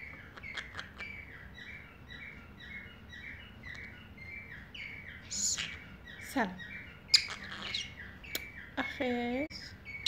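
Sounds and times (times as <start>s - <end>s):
parrot chirping: 0.0s - 9.0s.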